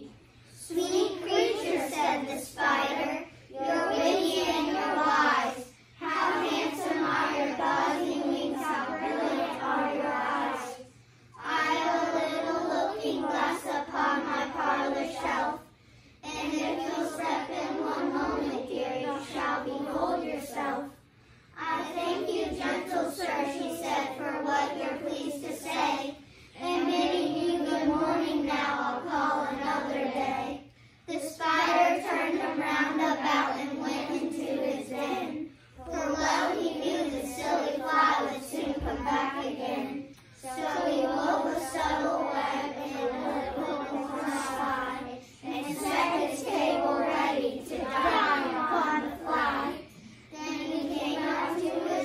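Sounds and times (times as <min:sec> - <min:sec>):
children reciting in unison: 0:00.0 - 0:21.0, 0:21.6 - 0:52.0.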